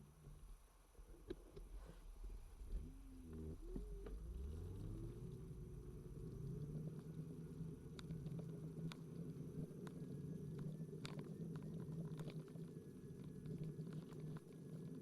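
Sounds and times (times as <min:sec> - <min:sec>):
electric unicycle riding rumble: 0:00.0 - 0:15.0.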